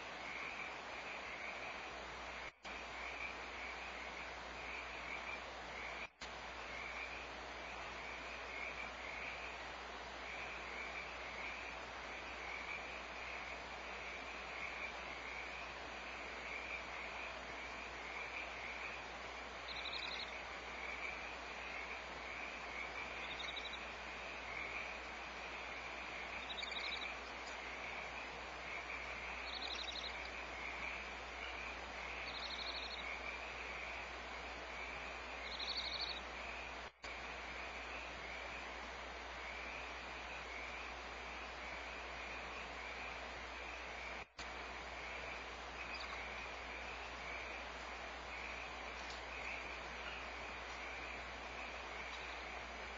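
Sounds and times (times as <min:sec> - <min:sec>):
frogs calling: 0:00.0 - 0:52.9.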